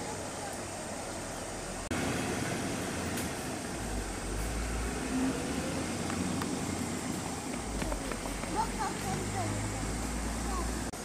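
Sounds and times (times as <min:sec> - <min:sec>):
background hiss: 0:00.0 - 0:11.0
vehicle engine rumble: 0:00.0 - 0:11.0.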